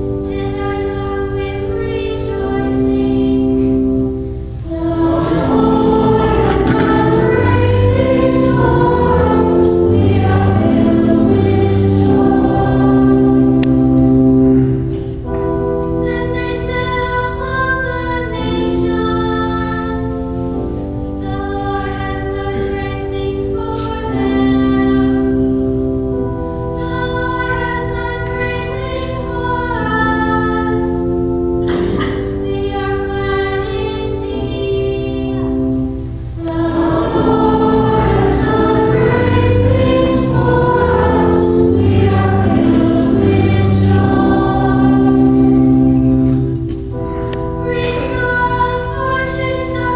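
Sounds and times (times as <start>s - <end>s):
choir singing a hymn: 0.0s - 49.9s
organ accompaniment: 0.0s - 49.9s.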